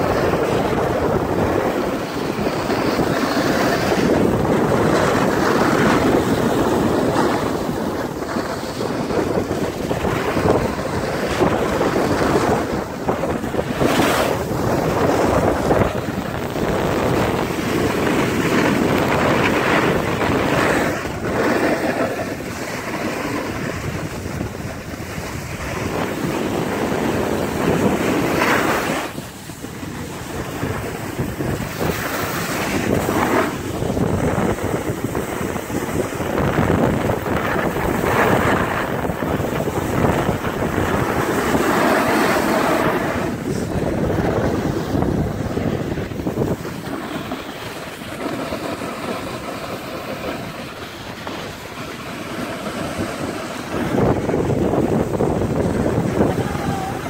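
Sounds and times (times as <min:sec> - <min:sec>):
skis scraping on packed snow: 0:00.0 - 0:57.0
wind rushing over microphone: 0:00.0 - 0:57.0.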